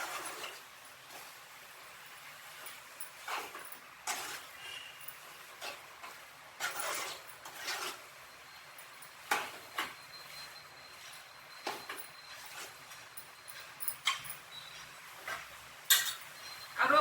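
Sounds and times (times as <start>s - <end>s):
spoon scraping cooking pan: 0.0s - 16.8s.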